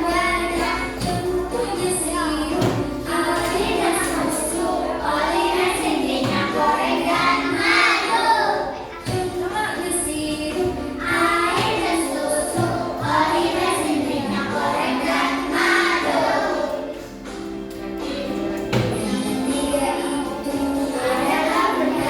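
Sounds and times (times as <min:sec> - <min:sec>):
children singing together: 0:00.0 - 0:22.0
music: 0:00.0 - 0:22.0.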